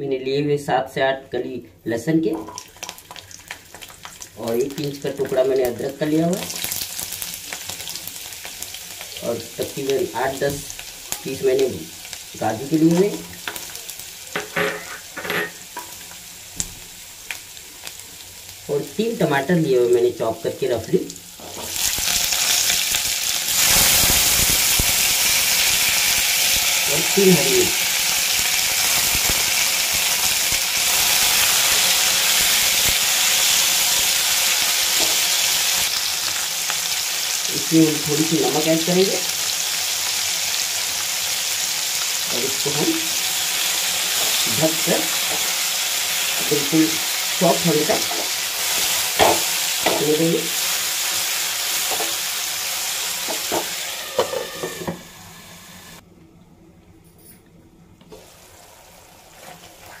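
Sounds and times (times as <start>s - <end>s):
vegetables sizzling in hot oil: 2.4s - 56.0s, 58.1s - 60.0s.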